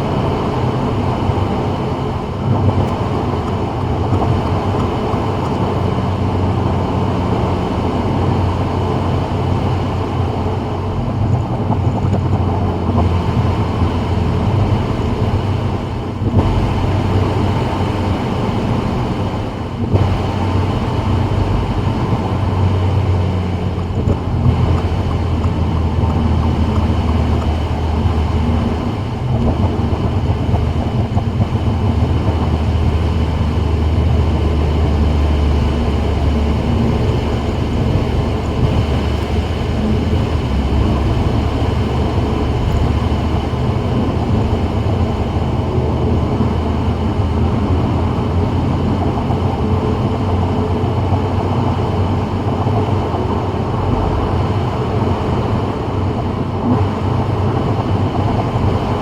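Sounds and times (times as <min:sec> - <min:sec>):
low road rumble: 0:00.0 - 0:59.0.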